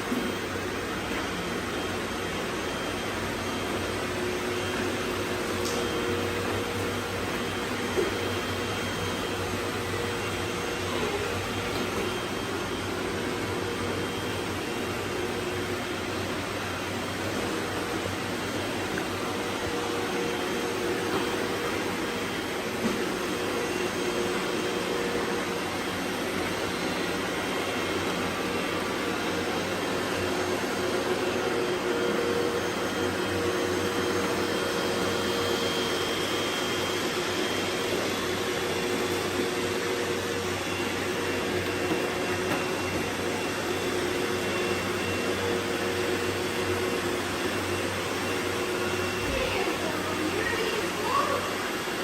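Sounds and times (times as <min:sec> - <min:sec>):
robot vacuums whirring: 0:00.4 - 0:52.0.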